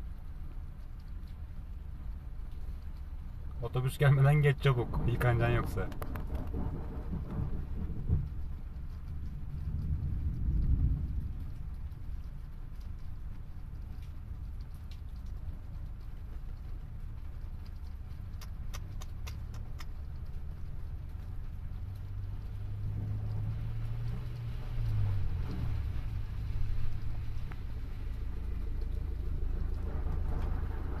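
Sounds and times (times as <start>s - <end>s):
bus engine: 0.0s - 31.0s
tyres swishing through water: 0.0s - 31.0s.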